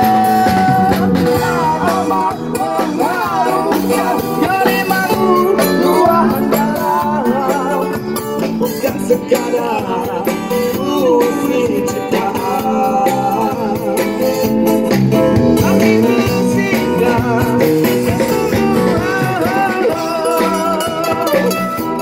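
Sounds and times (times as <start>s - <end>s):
guitar accompaniment: 0.0s - 22.0s
man singing rock song: 0.0s - 22.0s.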